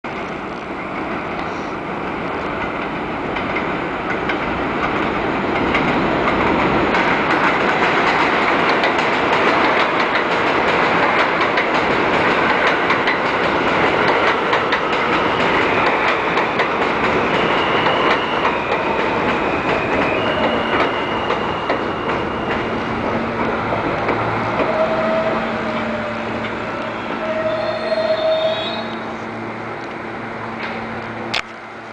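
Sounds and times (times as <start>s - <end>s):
subway train rumbling: 0.1s - 31.9s.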